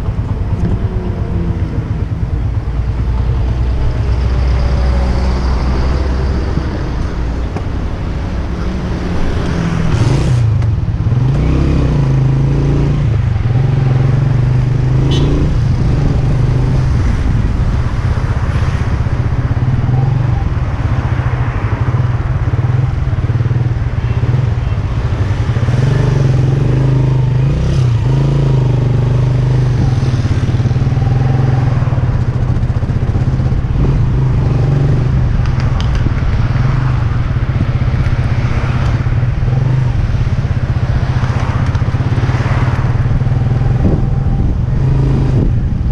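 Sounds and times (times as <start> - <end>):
road and traffic noise: 0.0 - 45.9.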